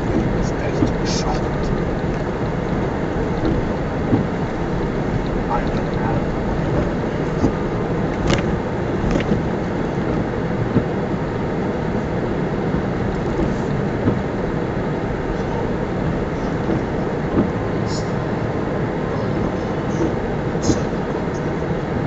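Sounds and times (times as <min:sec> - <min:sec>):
van engine and road noise: 0:00.0 - 0:22.0.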